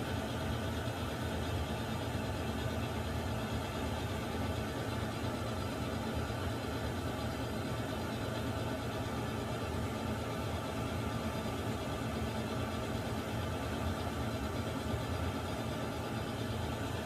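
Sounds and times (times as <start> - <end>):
water heater rushing hum: 0.0 - 17.0.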